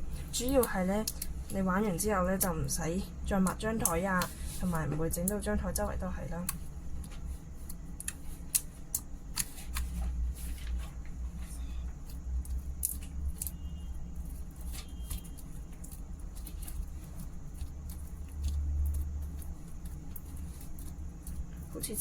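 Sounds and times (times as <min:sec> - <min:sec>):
low steady hum: 0:00.0 - 0:22.0
sticky slime clicks and crackles: 0:00.3 - 0:04.4, 0:05.1 - 0:09.9, 0:12.0 - 0:22.0.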